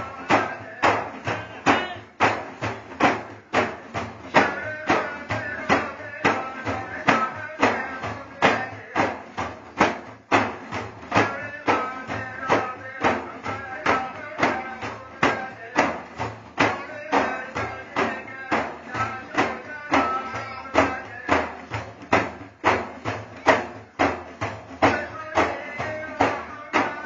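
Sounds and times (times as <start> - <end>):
frame drums beating: 0.0 - 27.0
men singing: 0.0 - 27.0.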